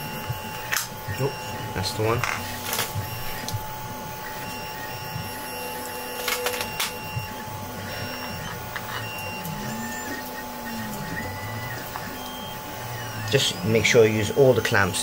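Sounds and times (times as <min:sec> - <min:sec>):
machine hum with whining tones: 0:00.0 - 0:15.0.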